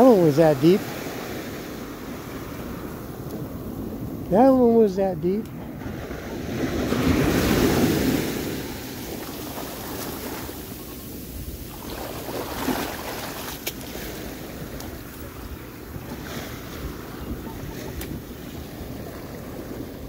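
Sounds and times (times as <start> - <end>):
ocean surf washing up beach: 0.0 - 20.0
wind rumbling on microphone: 0.7 - 20.0.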